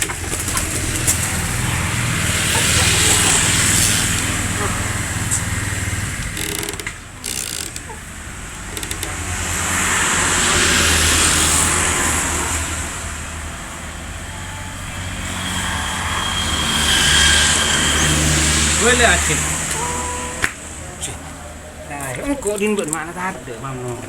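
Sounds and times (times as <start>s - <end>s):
road noise: 0.0s - 24.0s
vehicle engine running: 0.0s - 24.0s.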